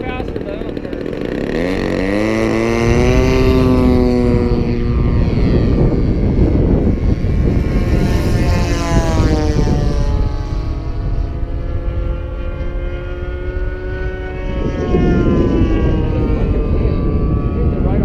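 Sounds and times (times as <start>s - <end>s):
model airplane propeller engine: 0.0s - 18.0s.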